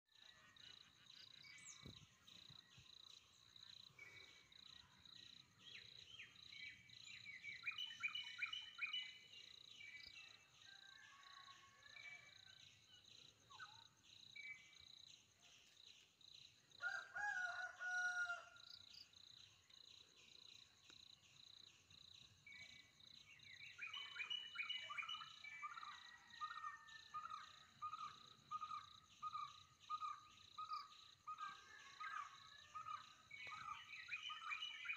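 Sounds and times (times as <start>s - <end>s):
birds calling and singing: 0.2s - 18.4s, 19.0s - 34.9s.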